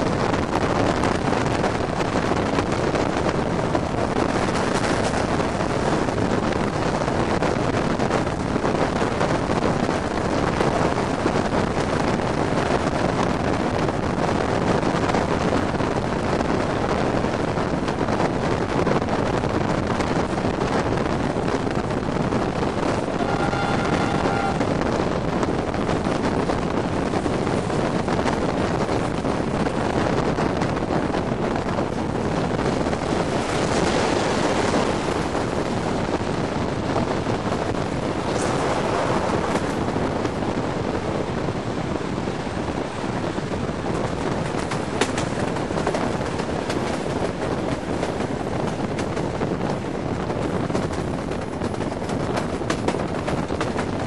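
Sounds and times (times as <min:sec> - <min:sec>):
train rumbling on rails: 0:00.0 - 0:54.0
wind buffeting microphone: 0:00.0 - 0:54.0.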